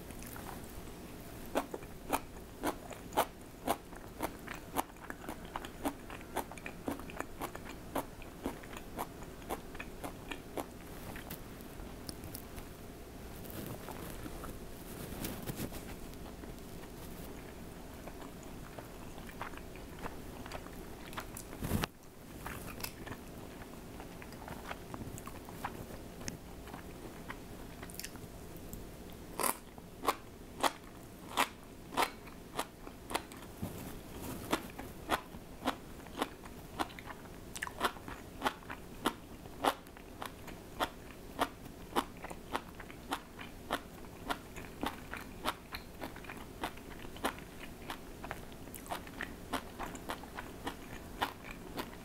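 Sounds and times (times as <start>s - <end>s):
person chewing crunchy food: 1.4s - 12.7s, 13.3s - 28.8s, 29.4s - 52.0s.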